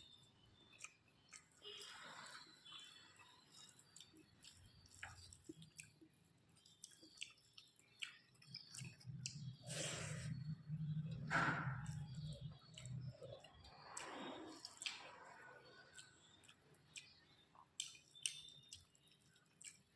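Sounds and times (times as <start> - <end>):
close chewing with wet mouth clicks: 0.0 - 19.9.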